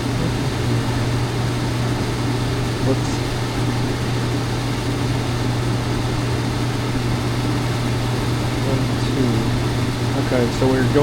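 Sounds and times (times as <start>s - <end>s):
furnace blower fan humming: 0.0s - 11.0s.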